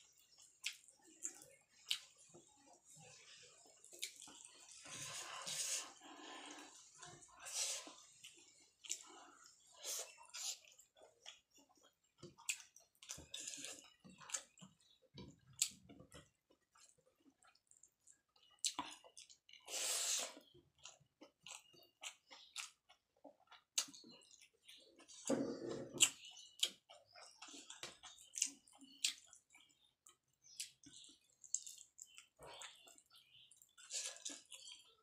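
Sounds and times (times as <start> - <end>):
close-up chewing: 0.0 - 35.0.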